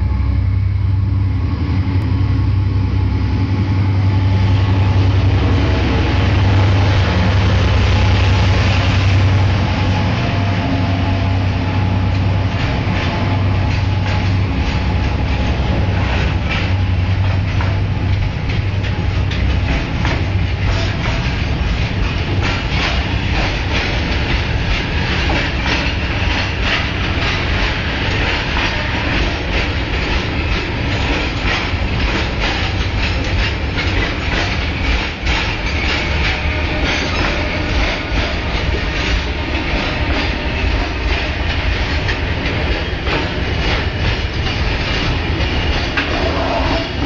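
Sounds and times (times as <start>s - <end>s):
freight train rumbling past: 0.0s - 47.0s
wheels clacking over rail joints: 4.4s - 47.0s.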